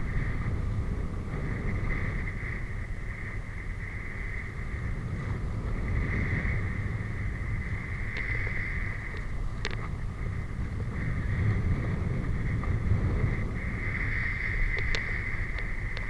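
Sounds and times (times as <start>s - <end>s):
constant high hum: 0.0s - 16.0s.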